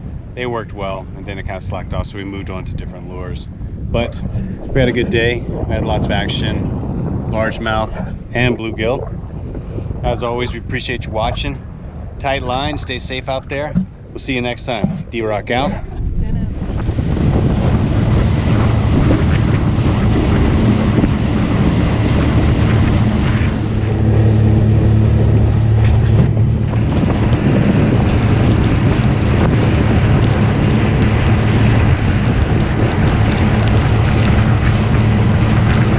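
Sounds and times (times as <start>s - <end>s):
boat motor running: 0.0s - 35.9s
wind buffeting microphone: 0.0s - 35.9s.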